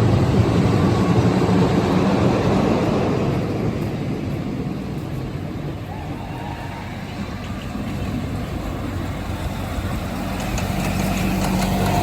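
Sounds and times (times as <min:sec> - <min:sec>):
amusement park train engine rumble: 0:00.0 - 0:12.0.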